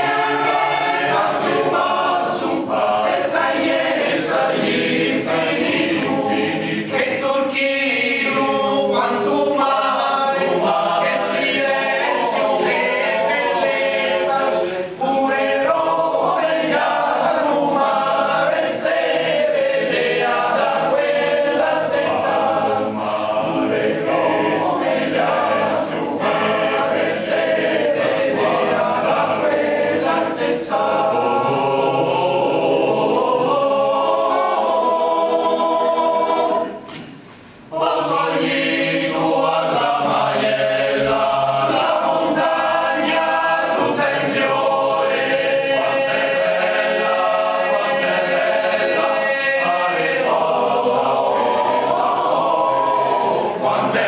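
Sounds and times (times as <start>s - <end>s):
male choir singing: 0.0s - 37.0s, 37.7s - 54.0s.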